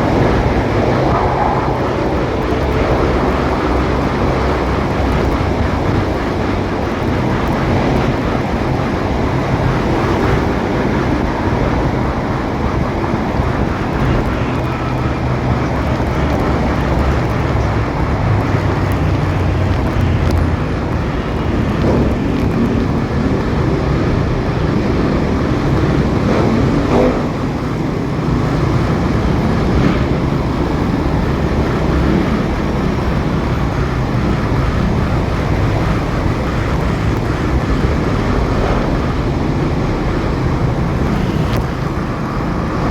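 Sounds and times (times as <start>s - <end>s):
road and wind noise: 0.0s - 42.9s.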